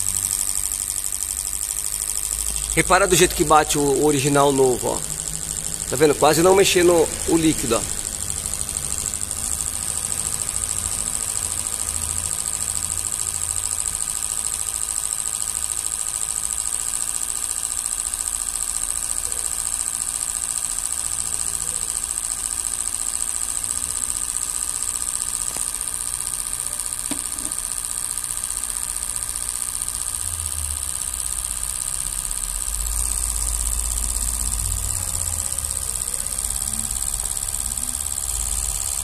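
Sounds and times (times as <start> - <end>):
machine hum with high-pitched whine: 0.0 - 39.0.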